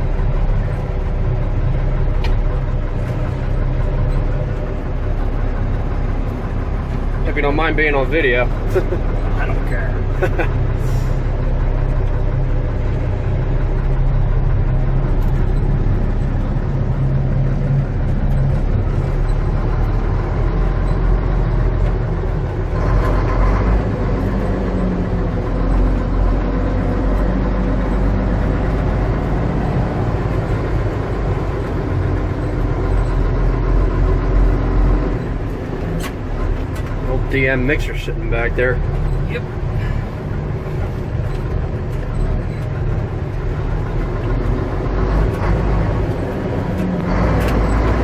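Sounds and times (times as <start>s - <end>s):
diesel truck engine running: 0.0s - 48.0s.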